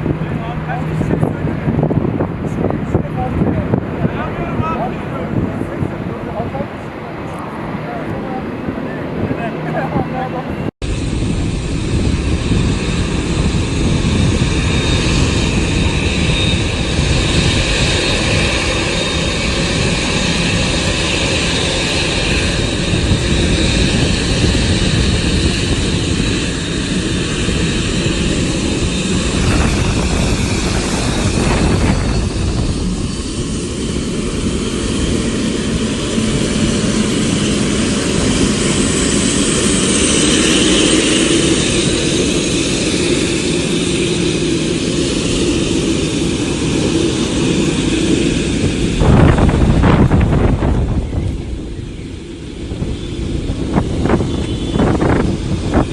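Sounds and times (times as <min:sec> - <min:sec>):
jet engines running: 0:00.0 - 0:55.9.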